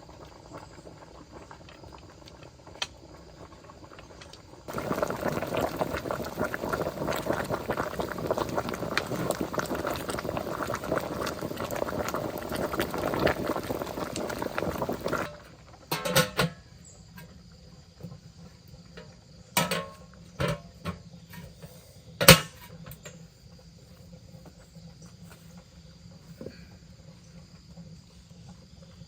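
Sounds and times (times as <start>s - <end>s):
faint insect chirping: 0.0s - 29.0s
pot boiling hard: 0.0s - 29.0s.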